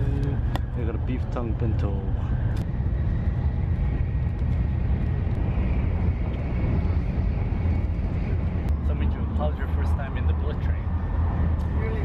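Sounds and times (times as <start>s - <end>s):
train cabin low rumble: 0.0s - 12.0s.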